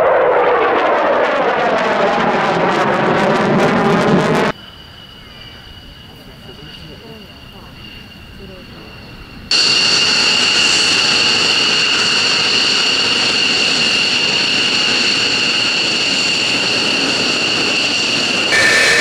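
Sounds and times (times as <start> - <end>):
jet engines whining at taxi power: 0.0 - 19.0.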